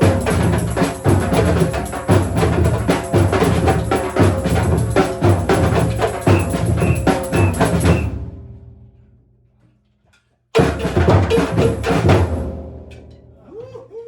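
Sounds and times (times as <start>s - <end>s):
percussion ensemble drumming: 0.0s - 8.8s, 10.6s - 13.2s.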